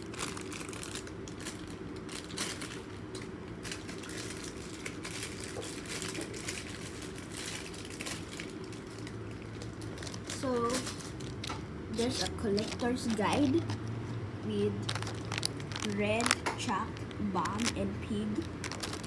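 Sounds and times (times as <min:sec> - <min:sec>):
plastic packaging crinkling: 0:00.0 - 0:13.9, 0:14.6 - 0:19.0.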